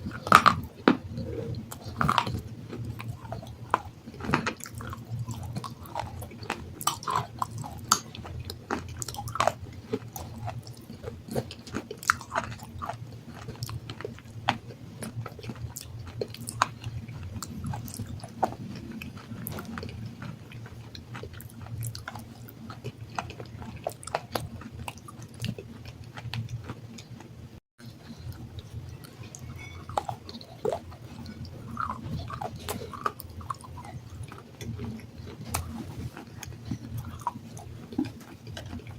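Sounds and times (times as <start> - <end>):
chewing gritty stone crunches: 0.0 - 27.2, 28.0 - 38.9.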